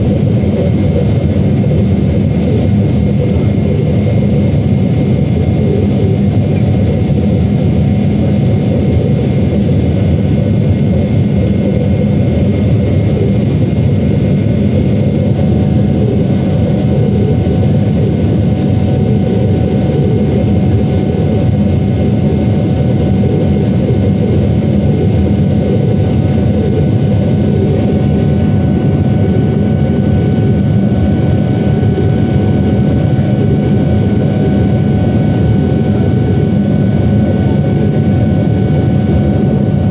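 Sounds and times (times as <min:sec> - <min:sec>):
faint steady whining tones: 0:00.0 - 0:39.9
jet engine rumble in cabin: 0:00.0 - 0:39.9.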